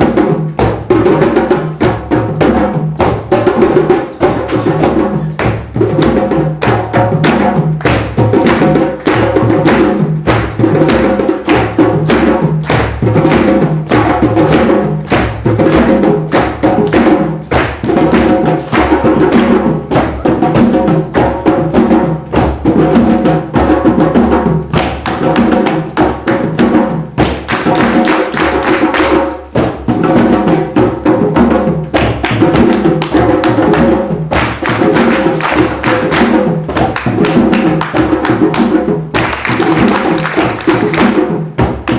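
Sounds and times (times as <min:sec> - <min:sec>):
drumming group playing: 0:00.0 - 0:41.9.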